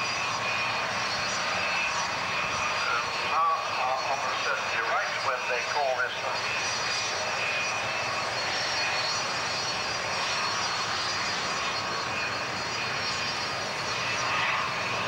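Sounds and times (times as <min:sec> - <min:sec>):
propeller airliner drone: 0:00.0 - 0:15.0.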